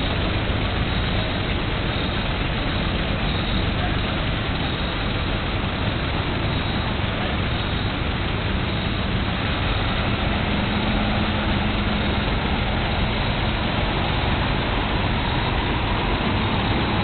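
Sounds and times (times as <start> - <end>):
car engines rumbling: 0.0 - 17.0.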